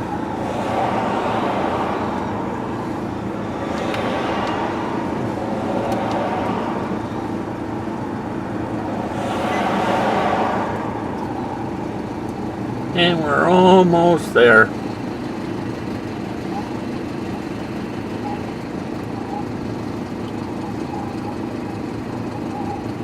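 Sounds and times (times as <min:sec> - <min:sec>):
road and engine noise inside car: 0:00.0 - 0:23.0.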